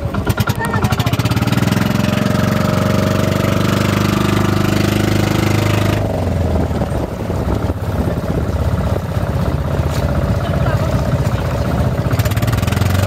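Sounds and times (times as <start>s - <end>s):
boat engine running: 0.0s - 13.0s
water rushing along hull: 0.0s - 13.0s.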